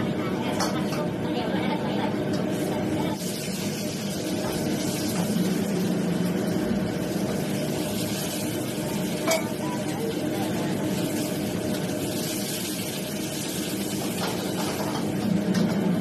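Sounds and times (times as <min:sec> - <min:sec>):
food sizzling in wok: 0:02.4 - 0:15.5.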